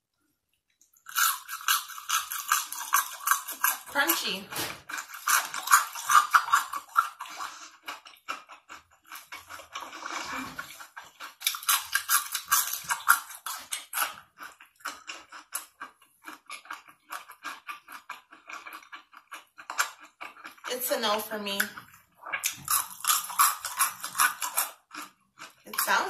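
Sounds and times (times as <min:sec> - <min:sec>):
crunching crisp food: 0:00.7 - 0:26.0.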